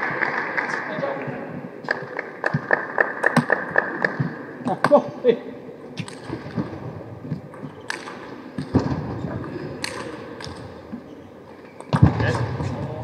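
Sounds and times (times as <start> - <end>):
quiet arena ambience: 0.0 - 13.0.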